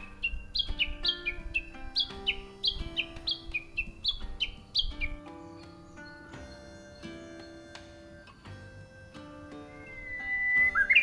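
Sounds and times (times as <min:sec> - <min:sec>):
soft background music: 0:00.0 - 0:11.0
songbird two-note song: 0:00.0 - 0:11.0.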